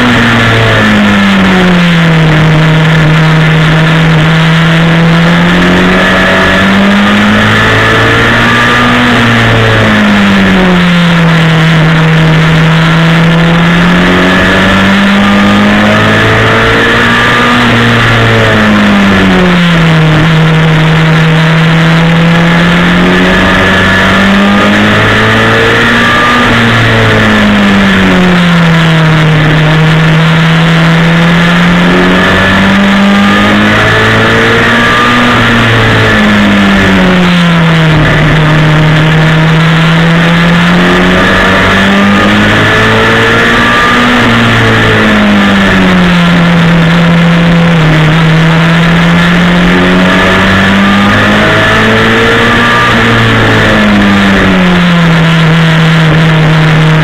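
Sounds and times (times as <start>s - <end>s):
race car engine revving: 0.0s - 57.0s
road and wind noise: 0.0s - 57.0s.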